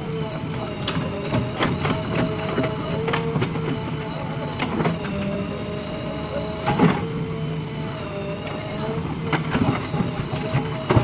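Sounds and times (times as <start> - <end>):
diesel engine running with whine: 0.0 - 11.0.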